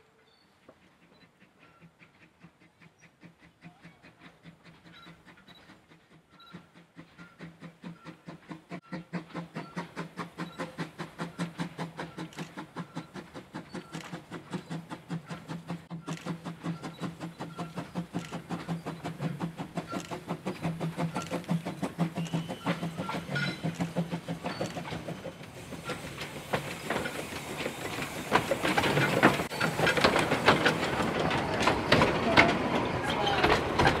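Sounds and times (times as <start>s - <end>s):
steam locomotive exhaust beating: 0.5s - 34.0s
wheels clattering over rail joints: 6.4s - 34.0s.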